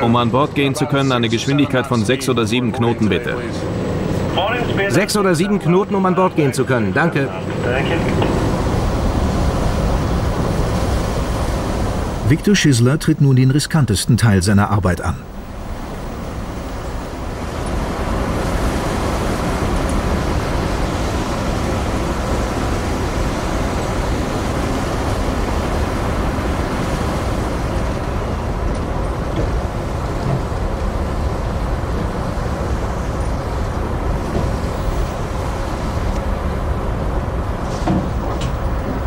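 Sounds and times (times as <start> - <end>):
boat engine rumble: 0.0 - 39.0
water rushing between hulls: 0.0 - 39.0.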